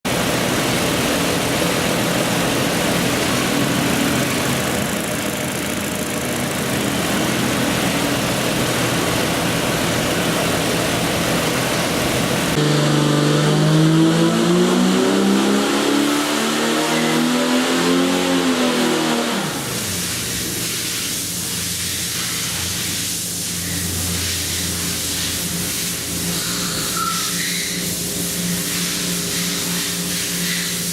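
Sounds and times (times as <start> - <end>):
engine revving on dyno: 0.1 - 30.9.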